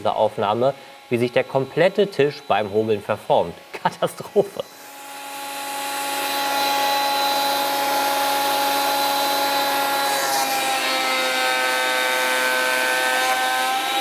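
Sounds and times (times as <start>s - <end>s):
planer motor whine: 0.0s - 14.0s.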